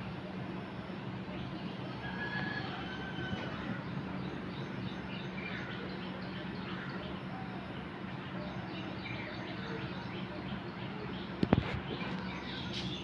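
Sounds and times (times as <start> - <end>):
birds chirping faintly: 0.0 - 13.0
steady low hum: 0.0 - 13.0.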